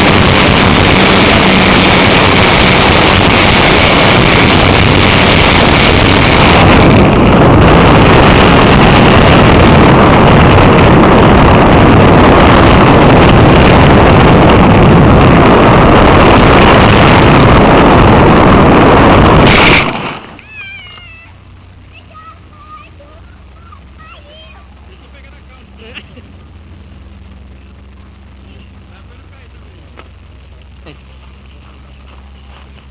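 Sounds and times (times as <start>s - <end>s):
wind and propeller noise: 0.0s - 32.9s.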